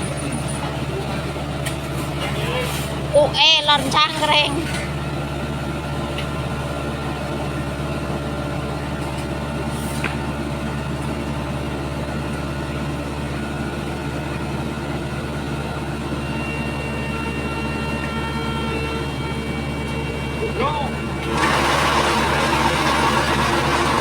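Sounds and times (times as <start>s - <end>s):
heavy machinery engine running: 0.0s - 24.0s.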